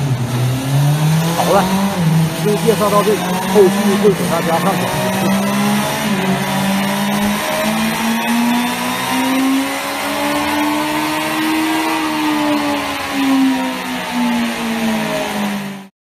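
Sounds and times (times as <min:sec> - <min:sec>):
car engine revving on a dyno: 0:00.0 - 0:15.9.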